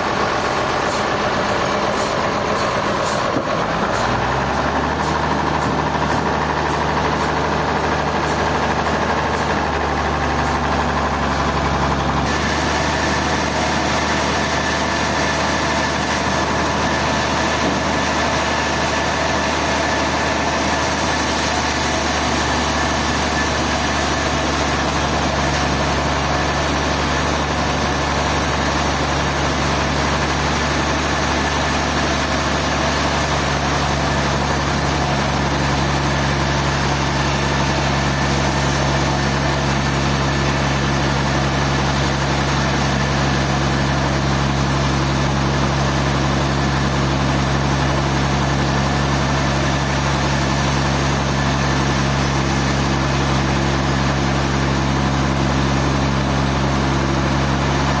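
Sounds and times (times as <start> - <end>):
heavy engine running steadily: 0.0 - 58.0.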